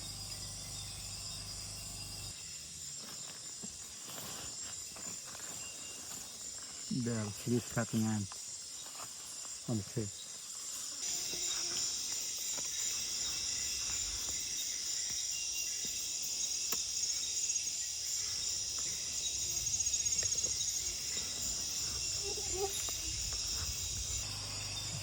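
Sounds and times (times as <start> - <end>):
insects chorus with pulsing trill: 0.0 - 25.0.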